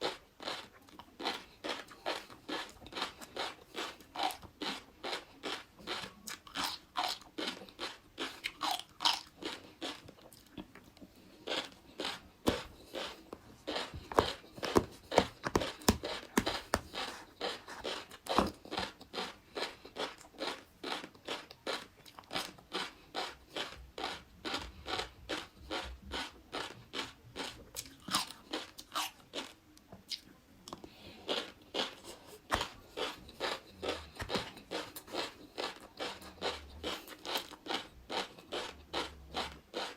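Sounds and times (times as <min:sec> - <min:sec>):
chewing fish roe: 0:00.0 - 0:39.9.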